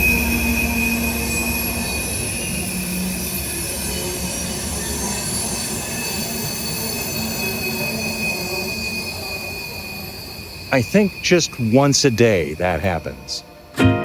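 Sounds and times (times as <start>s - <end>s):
train wheels squealing: 0.0s - 13.7s
train rumble: 0.0s - 13.8s.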